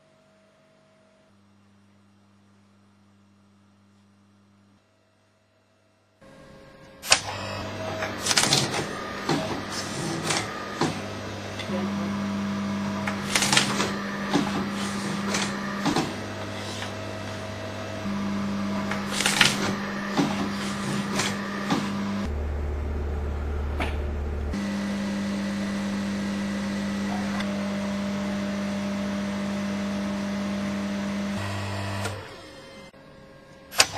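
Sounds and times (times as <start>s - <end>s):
motor hum: 6.2s - 33.9s.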